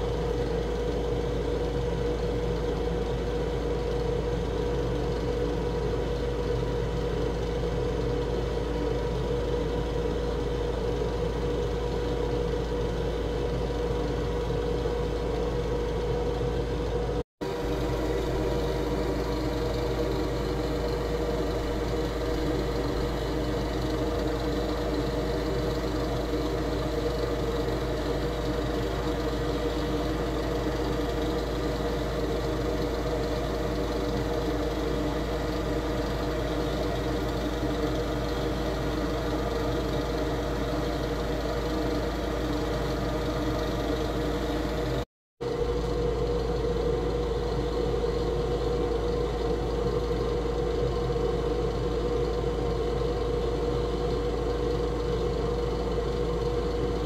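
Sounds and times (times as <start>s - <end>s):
mechanical hum with held tones: 0.0s - 57.0s.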